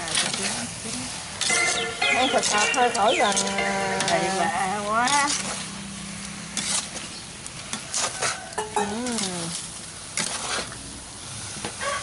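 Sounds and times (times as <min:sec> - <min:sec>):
metal spatula scraping wok: 0:00.0 - 0:05.8, 0:06.5 - 0:10.8
food sizzling in wok: 0:00.0 - 0:12.0.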